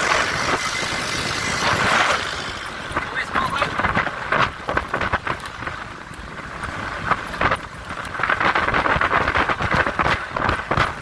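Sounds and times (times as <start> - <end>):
knocks and rattles of vehicle: 0.0 - 11.0
vehicle engine and road noise: 0.0 - 11.0.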